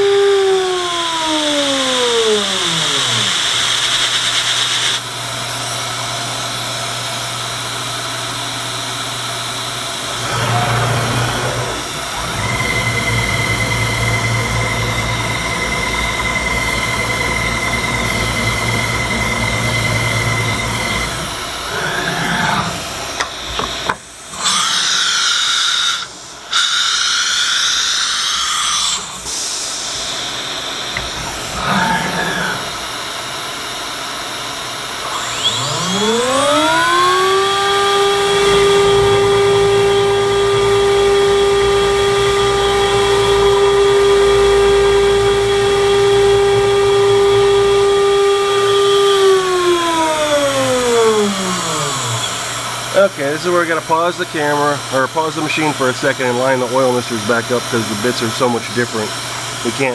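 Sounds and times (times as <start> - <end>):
milling machine whine: 0.0 - 59.9.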